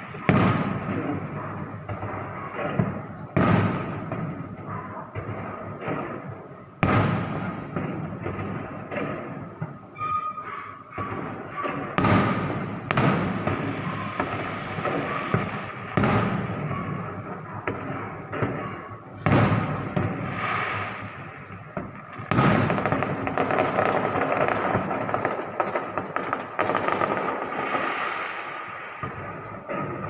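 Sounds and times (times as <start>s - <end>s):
fireworks booming: 0.0s - 30.0s
small fireworks pops and crackle: 0.0s - 30.0s.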